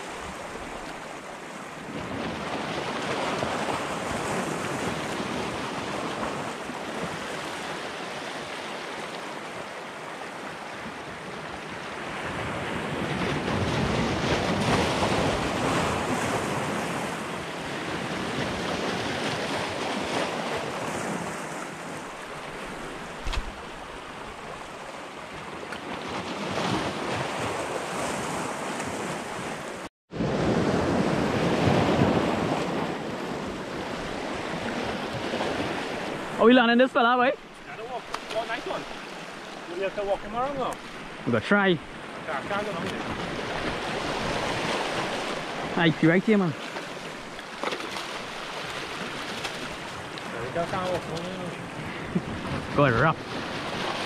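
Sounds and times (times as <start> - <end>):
waves washing over rocks: 0.0 - 54.0.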